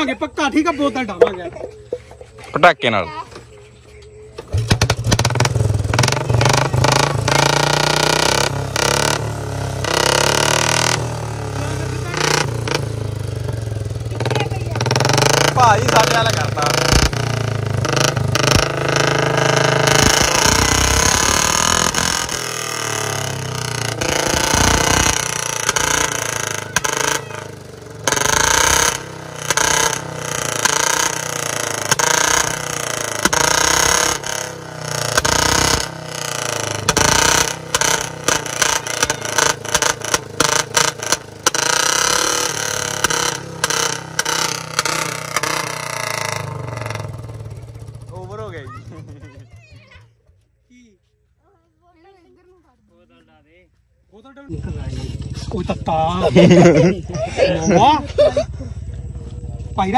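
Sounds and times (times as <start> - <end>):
motorcycle engine revving: 4.4 - 50.4, 54.3 - 59.9.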